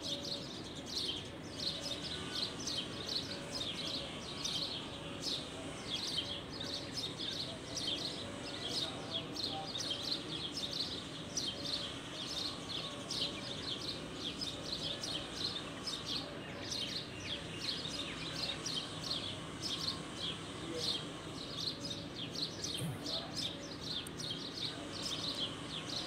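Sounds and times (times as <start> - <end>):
low background noise: 0.0 - 26.0
many birds chirping: 0.0 - 26.0.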